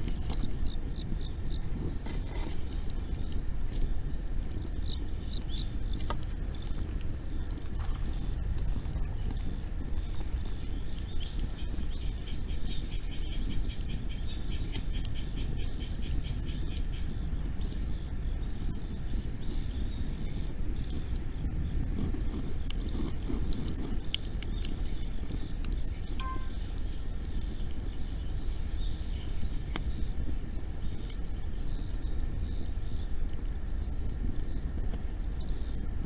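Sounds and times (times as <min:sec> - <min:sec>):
bonfire low rumble: 0:00.0 - 0:36.0
fire crackling: 0:00.0 - 0:36.0.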